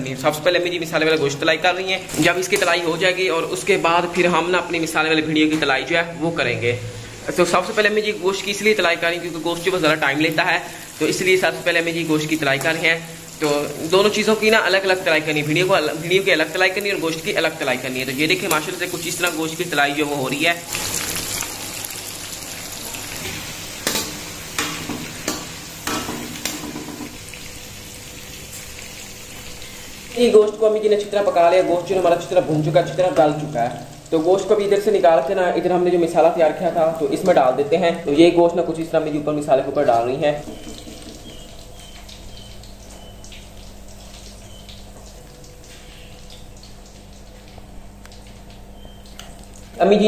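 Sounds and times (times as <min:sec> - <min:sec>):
meat sizzling in hot fat: 0:00.2 - 0:05.0, 0:06.8 - 0:37.4, 0:40.4 - 0:49.8.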